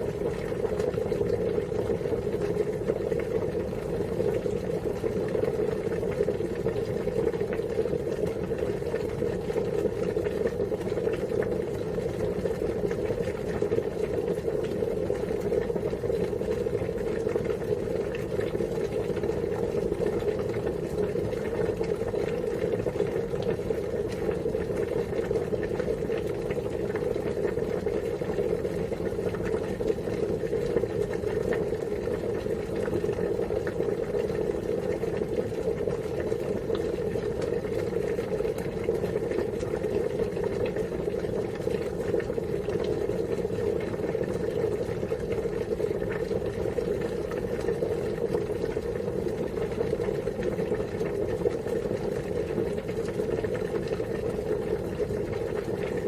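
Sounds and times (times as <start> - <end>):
water boiling: 0.0 - 56.0.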